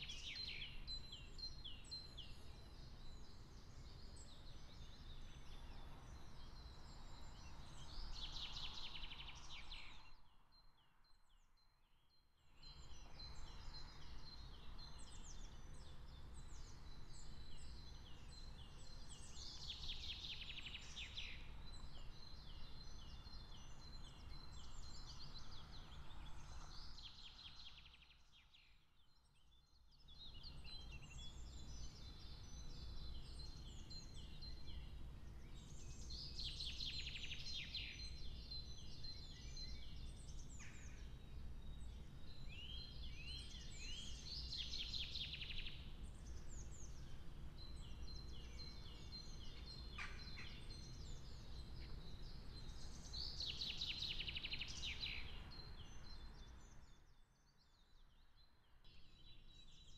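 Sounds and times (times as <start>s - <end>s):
songbirds singing with trill: 0.0s - 59.9s.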